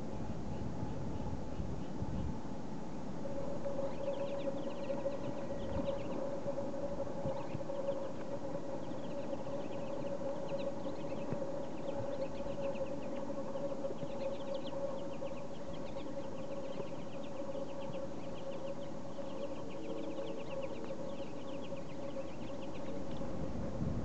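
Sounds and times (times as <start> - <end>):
steady low hum: 0.0 - 24.0
small birds calling: 3.3 - 23.3.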